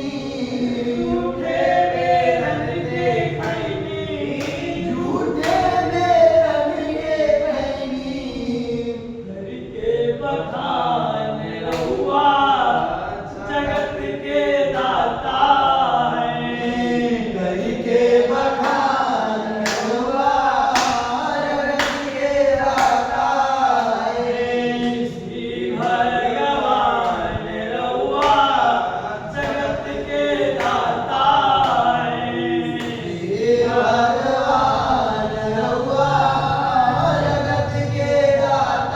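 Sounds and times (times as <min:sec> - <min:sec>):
group singing devotional song: 0:00.0 - 0:38.9.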